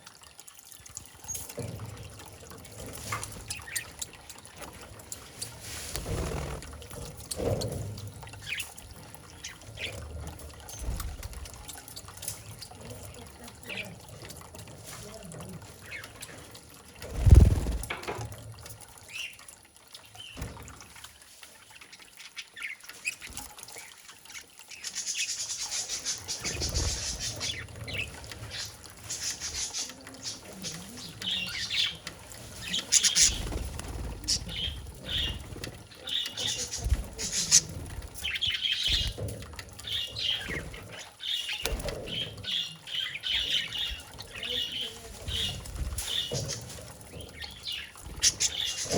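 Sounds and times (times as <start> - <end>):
bird wings fluttering and splashing: 0.0 - 48.9.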